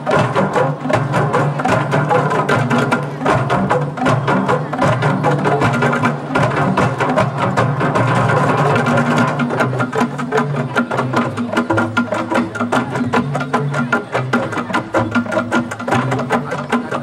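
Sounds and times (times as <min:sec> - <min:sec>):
wooden tube drums: 0:00.0 - 0:17.0.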